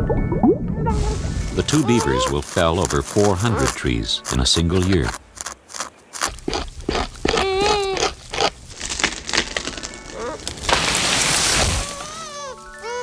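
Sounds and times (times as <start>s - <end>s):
wood scraping and cracking: 0.9s - 13.0s.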